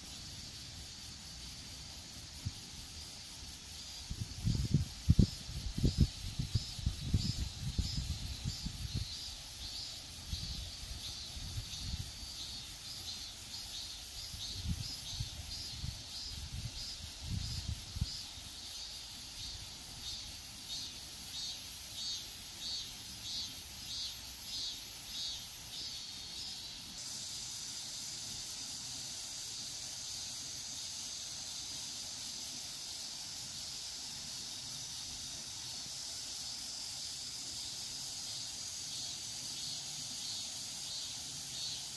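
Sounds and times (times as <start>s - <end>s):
high insect drone: 0.0s - 41.9s
insects pulsing chirp: 0.0s - 41.9s.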